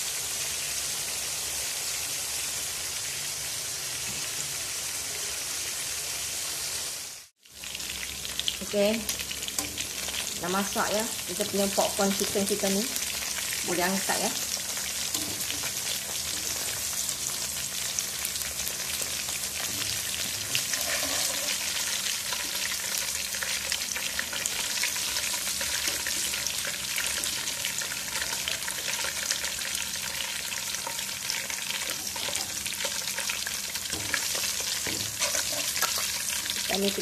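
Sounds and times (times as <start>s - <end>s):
chicken deep-frying in oil: 0.0s - 37.0s.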